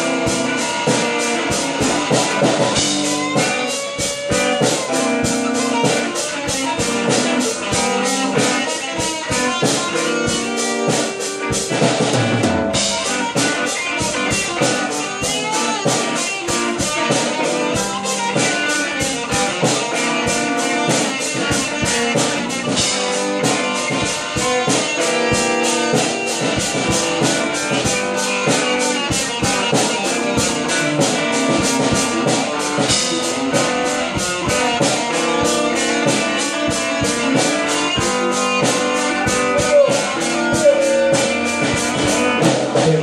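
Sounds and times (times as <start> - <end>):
drum kit beat: 0.0 - 43.0
electric guitars: 0.0 - 43.0.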